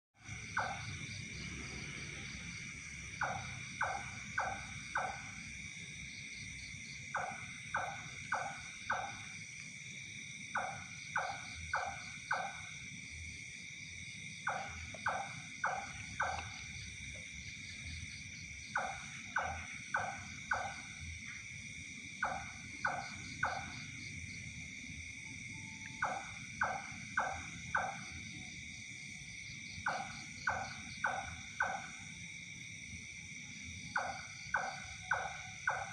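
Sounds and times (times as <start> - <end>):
night insects chorus: 0.2 - 35.9.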